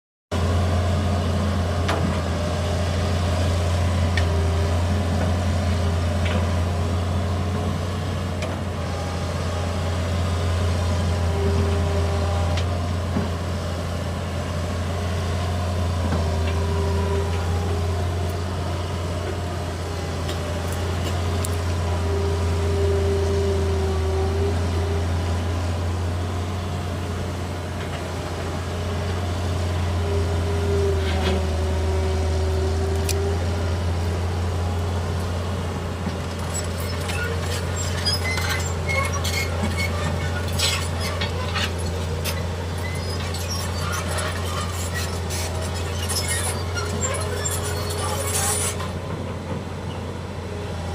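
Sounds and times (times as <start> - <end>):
excavator diesel engine hum: 0.3 - 50.9.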